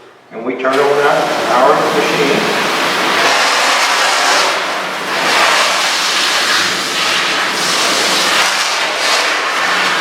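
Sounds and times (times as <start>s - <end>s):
faint low pump hum: 0.0s - 8.6s
water spraying from wand: 1.5s - 10.0s.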